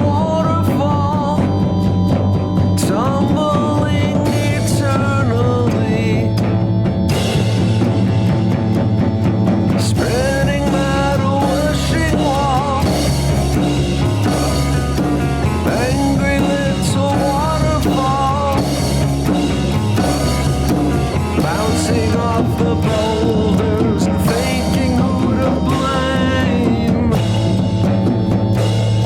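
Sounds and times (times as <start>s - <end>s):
psychedelic rock band playing: 0.0s - 29.0s
wavering melodic lead line: 0.0s - 29.0s.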